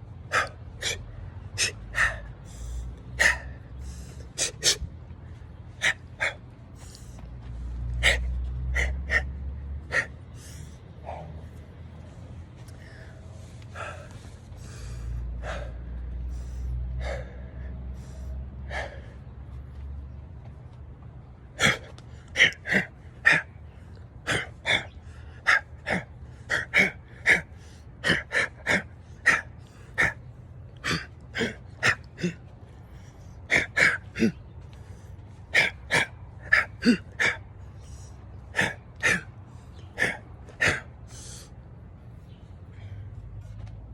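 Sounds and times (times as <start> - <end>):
person gasping breaths: 0.2 - 19.4, 21.5 - 41.6, 42.3 - 43.6.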